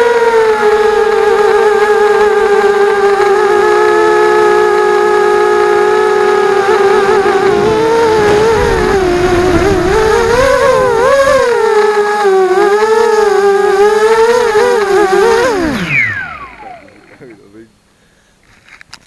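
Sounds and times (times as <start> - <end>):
drone motors whining: 0.0 - 17.5.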